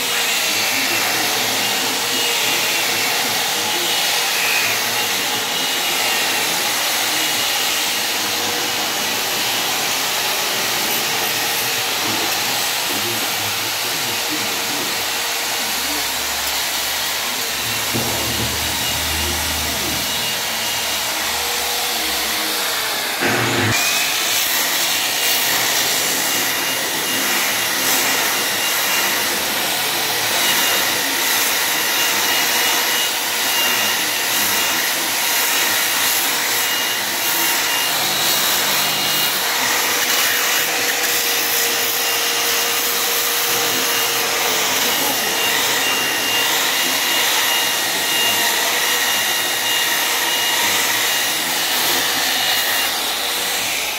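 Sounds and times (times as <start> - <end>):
electric polisher on stone: 0.0 - 53.9.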